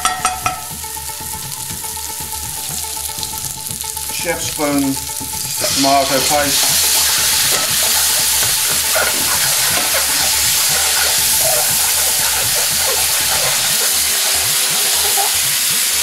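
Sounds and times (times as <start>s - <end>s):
sizzling in a frying pan: 0.0s - 16.0s
metal spoon stirring: 1.9s - 16.0s.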